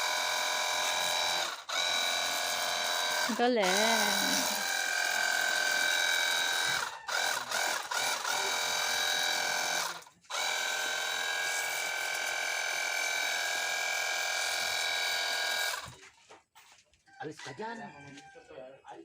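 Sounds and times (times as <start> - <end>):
pressure washer motor whine: 0.0 - 16.0.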